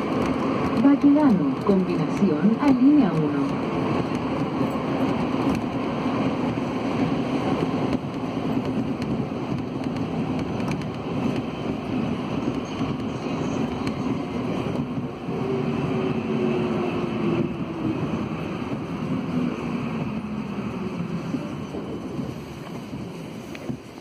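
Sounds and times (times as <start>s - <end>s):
metro train rumble: 0.0s - 24.0s.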